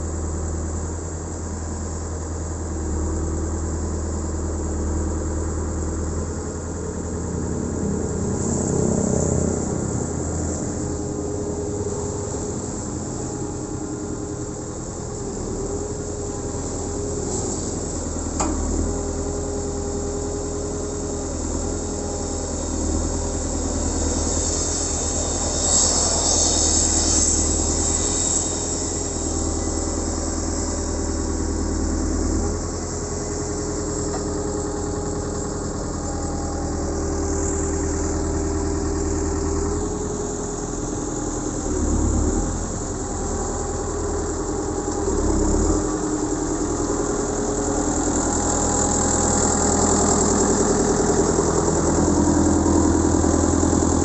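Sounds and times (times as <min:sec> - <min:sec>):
diesel engine running: 0:00.0 - 0:54.0
steady whining tone: 0:00.0 - 0:54.0.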